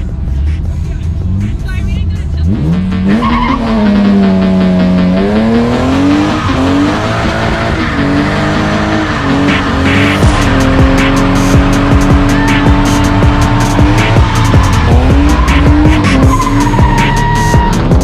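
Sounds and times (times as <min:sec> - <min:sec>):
car engine revving hard: 0:02.2 - 0:18.0
tire squeal: 0:03.0 - 0:18.0.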